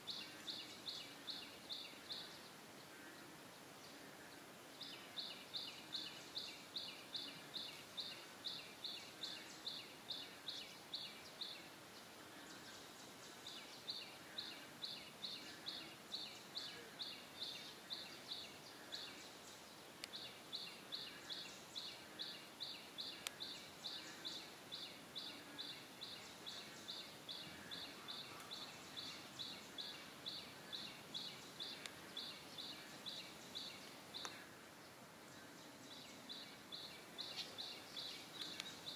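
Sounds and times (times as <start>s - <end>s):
bird chirping: 0.0s - 38.9s
faint outdoor hiss: 0.0s - 38.9s.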